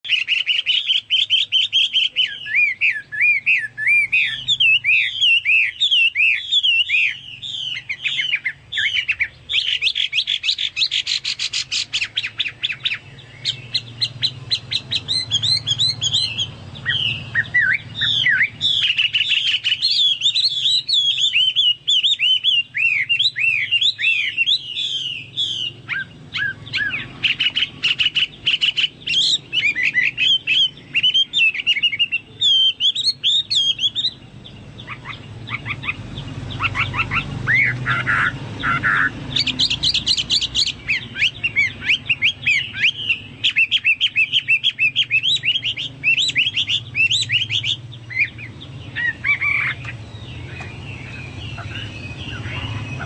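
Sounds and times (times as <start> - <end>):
songbird singing: 0.0 - 53.0.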